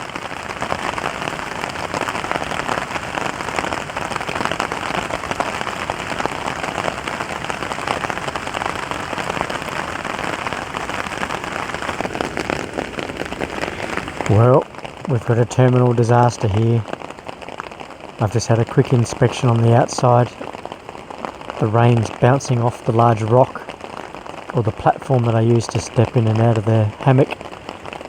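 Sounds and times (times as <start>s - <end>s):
heavy rain on a tarp: 0.0s - 28.0s.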